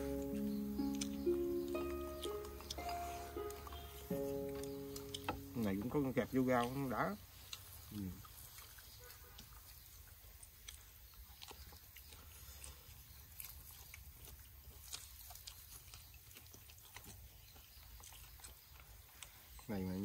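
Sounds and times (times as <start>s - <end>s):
person chewing food: 0.0s - 5.7s, 6.6s - 19.7s.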